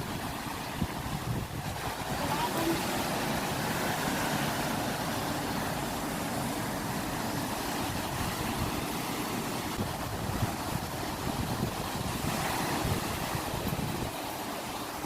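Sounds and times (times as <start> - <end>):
ocean waves washing: 0.0 - 15.0.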